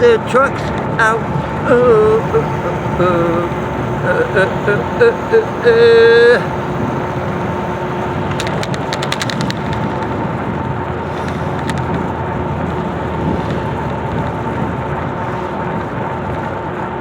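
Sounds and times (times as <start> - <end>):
engine and road hum: 0.0 - 17.0
faint steady whine: 0.0 - 17.0.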